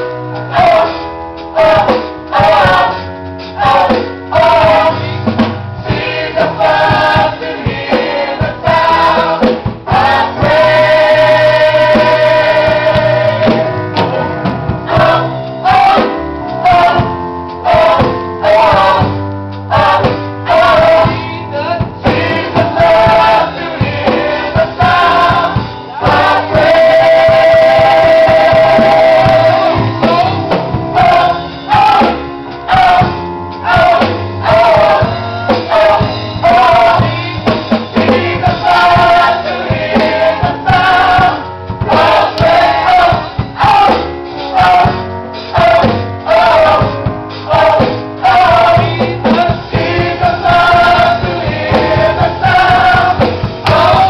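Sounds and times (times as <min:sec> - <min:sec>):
gospel choir singing with band: 0:00.0 - 0:54.0.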